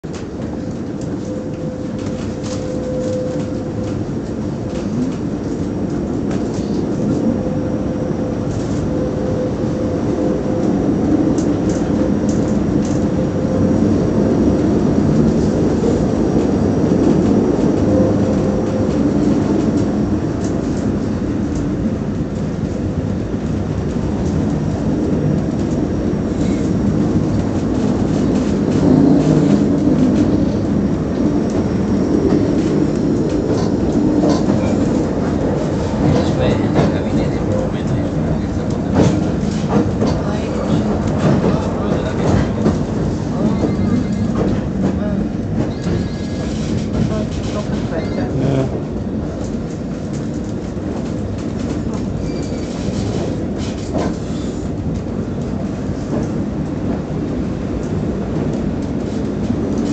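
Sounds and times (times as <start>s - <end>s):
tram wheels rumbling: 0.0s - 59.9s.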